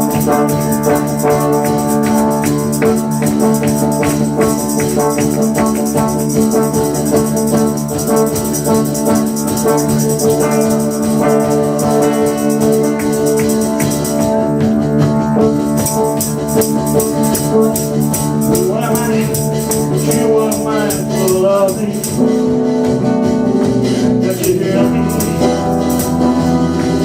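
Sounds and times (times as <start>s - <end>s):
band playing held chords: 0.0s - 27.0s
rattling hand percussion: 0.0s - 27.0s.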